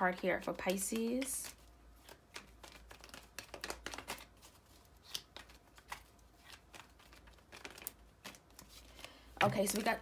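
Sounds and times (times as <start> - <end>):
cards shuffling: 0.6 - 10.0.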